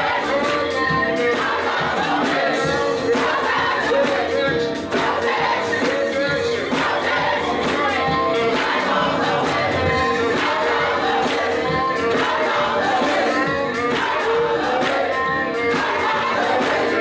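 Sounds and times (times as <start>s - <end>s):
gospel choir singing: 0.0s - 17.0s
hands clapping: 0.3s - 17.0s.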